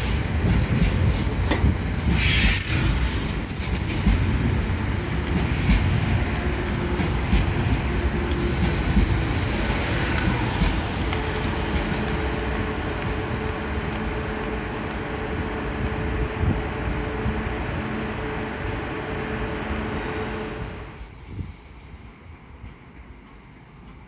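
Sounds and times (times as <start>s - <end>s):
train rolling to a stop: 0.0s - 24.0s.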